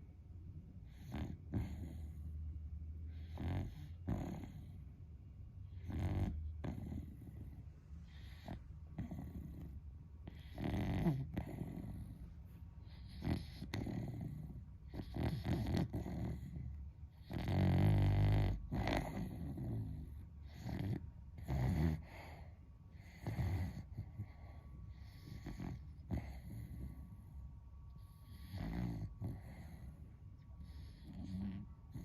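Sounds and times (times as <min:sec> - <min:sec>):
dog snoring loudly: 0:00.8 - 0:02.4, 0:03.1 - 0:04.8, 0:05.6 - 0:27.2, 0:28.0 - 0:32.0.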